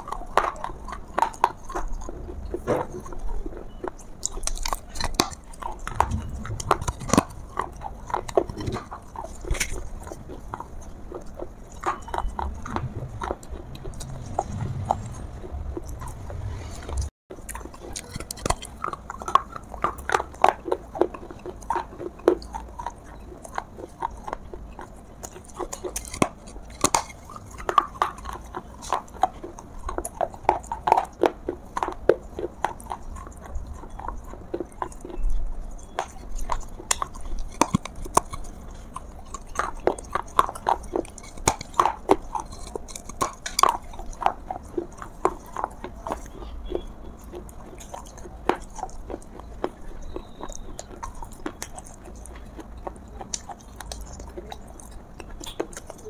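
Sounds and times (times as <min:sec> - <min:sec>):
chewing crunchy clay: 0:00.0 - 0:56.0.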